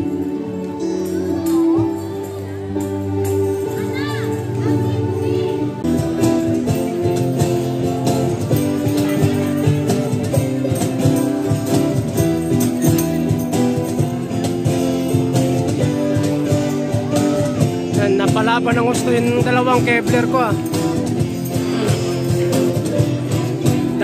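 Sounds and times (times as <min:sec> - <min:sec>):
bass guitar: 0:00.0 - 0:24.0
strummed acoustic guitar: 0:00.0 - 0:24.0.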